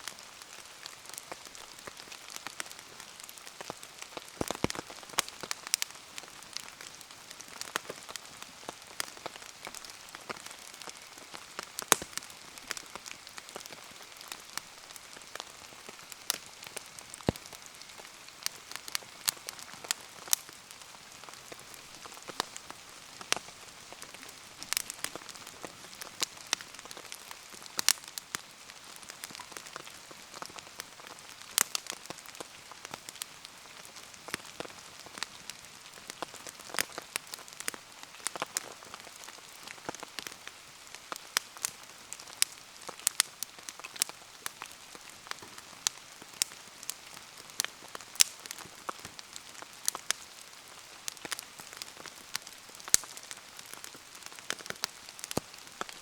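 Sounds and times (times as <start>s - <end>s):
rain hissing: 0.0s - 50.0s
bonfire popping and crackling: 0.0s - 56.0s.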